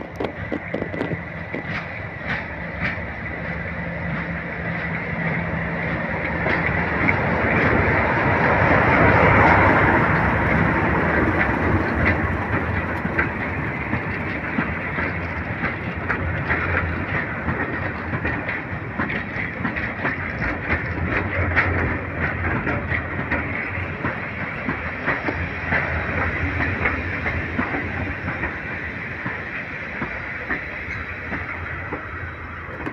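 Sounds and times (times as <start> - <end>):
diesel locomotive engine passing: 0.0 - 32.9
wheels clicking over rail joints: 0.0 - 32.9.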